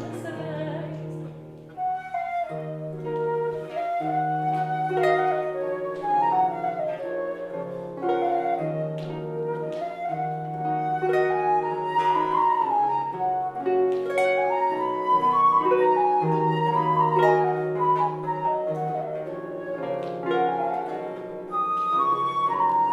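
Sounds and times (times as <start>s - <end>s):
plucked harp: 0.0s - 22.9s
baroque flute melody: 1.5s - 22.9s.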